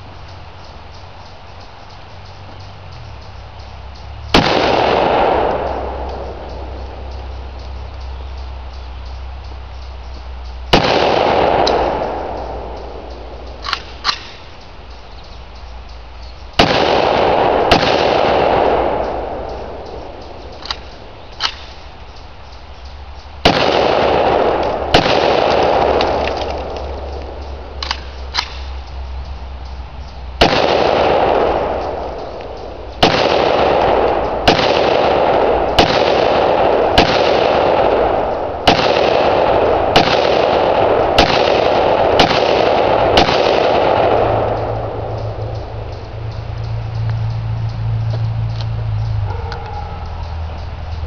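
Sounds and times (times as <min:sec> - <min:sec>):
rifle shots with rolling echo: 0:04.2 - 0:09.2, 0:10.1 - 0:15.8, 0:16.4 - 0:51.0.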